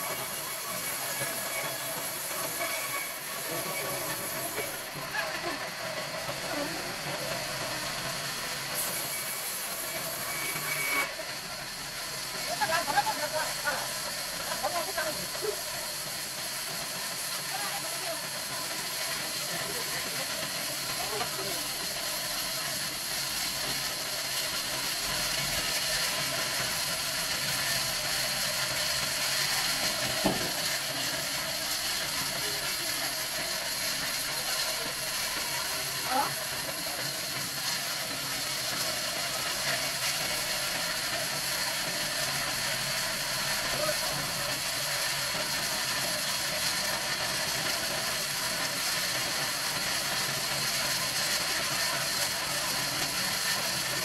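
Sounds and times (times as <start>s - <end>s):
band saw hissing through log: 0.0s - 54.0s.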